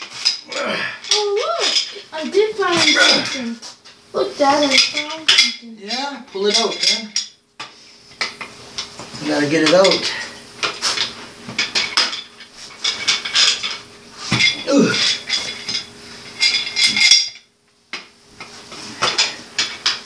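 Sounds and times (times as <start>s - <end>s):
metal tools clinking and scraping: 0.0s - 17.5s, 18.4s - 20.0s.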